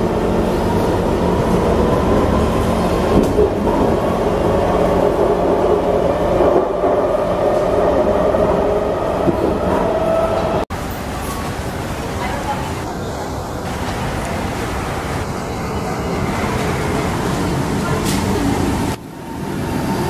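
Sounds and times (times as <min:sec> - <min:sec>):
train wheels rumbling on rails: 0:00.0 - 0:12.9, 0:13.5 - 0:20.0.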